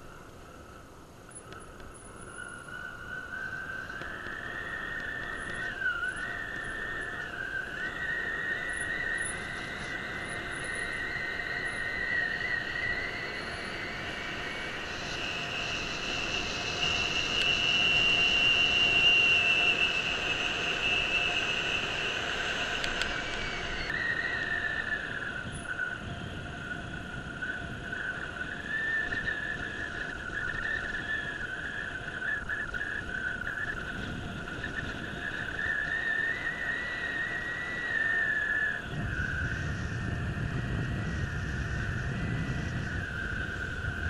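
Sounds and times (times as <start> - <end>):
high squealing whine: 0.0 - 44.0
steady rushing noise: 0.0 - 44.0.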